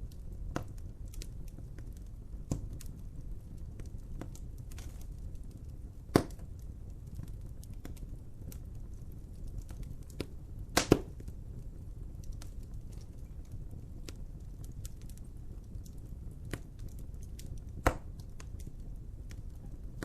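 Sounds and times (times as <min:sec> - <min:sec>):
sharp pops of fire: 0:00.0 - 0:20.0
wood fire crackling: 0:00.0 - 0:20.0.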